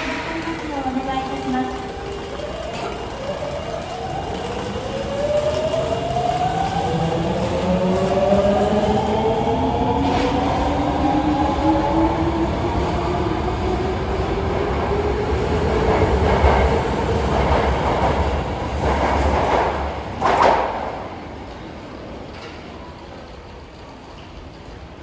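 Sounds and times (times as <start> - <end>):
train wheels on rails: 0.0 - 25.0.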